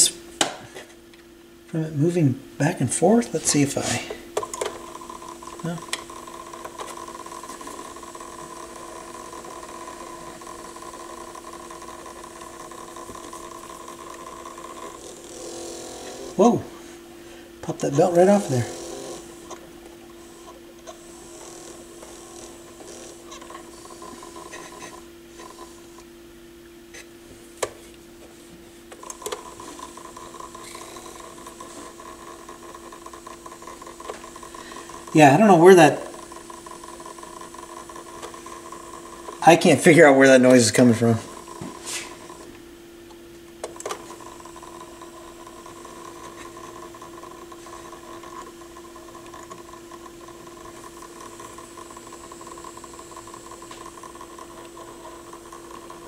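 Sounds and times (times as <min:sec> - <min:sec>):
turntable mechanism humming: 0:00.0 - 0:56.0.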